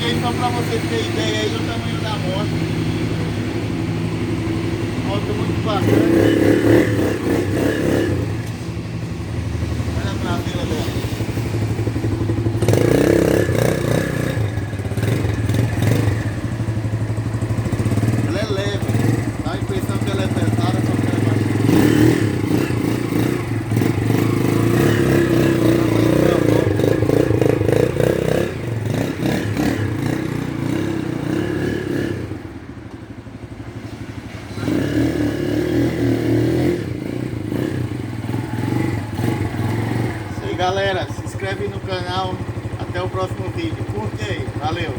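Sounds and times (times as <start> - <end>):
engine idling: 0.0 - 34.7, 37.0 - 44.9.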